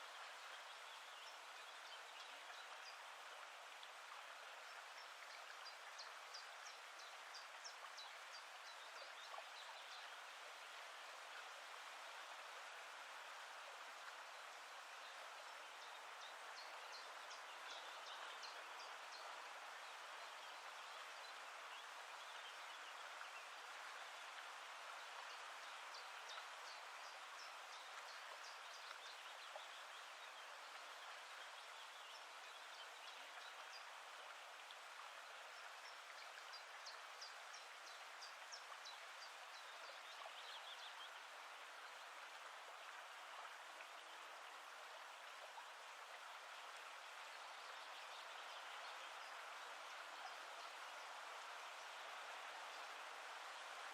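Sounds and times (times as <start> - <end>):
flowing water: 0.0 - 53.9.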